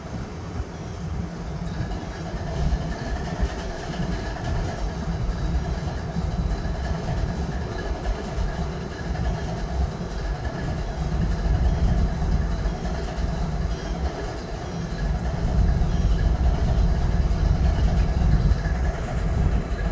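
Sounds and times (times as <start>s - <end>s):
faint steady whine: 0.0s - 19.9s
locomotive diesel engine idling: 1.8s - 19.9s.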